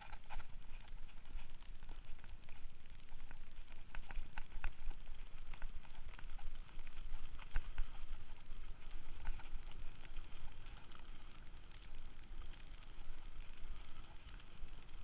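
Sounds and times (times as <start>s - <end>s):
bike rattling: 0.0s - 15.0s.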